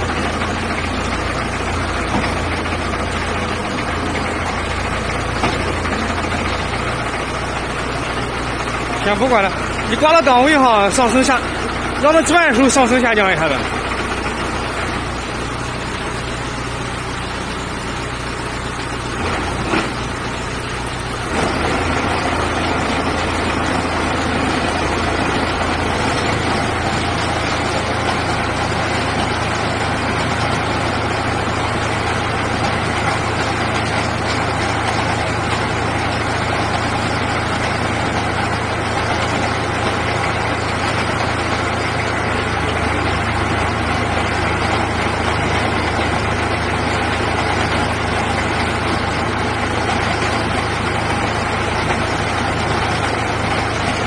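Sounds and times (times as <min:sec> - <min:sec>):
drilling rig engine running: 0:00.0 - 0:54.0.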